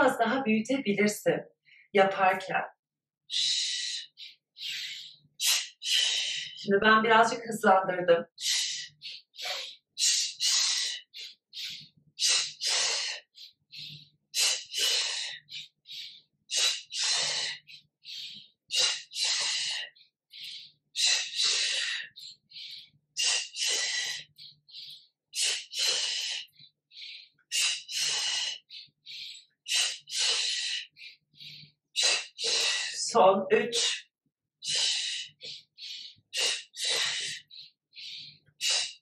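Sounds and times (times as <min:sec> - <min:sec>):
person breathing quickly: 0:03.3 - 0:06.7, 0:08.4 - 0:33.1, 0:34.6 - 0:39.0.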